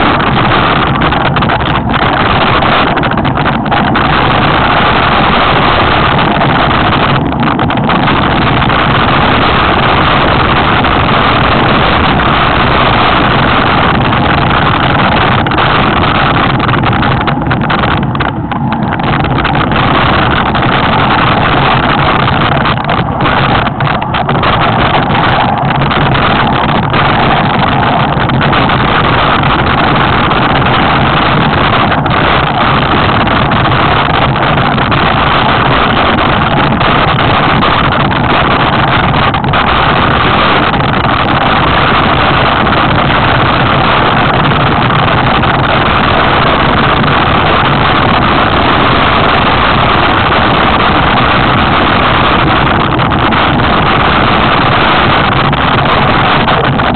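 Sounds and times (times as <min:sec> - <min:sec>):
bike tyre and frame rumble: 0:00.0 - 0:56.9
wind rush on microphone: 0:00.0 - 0:56.9.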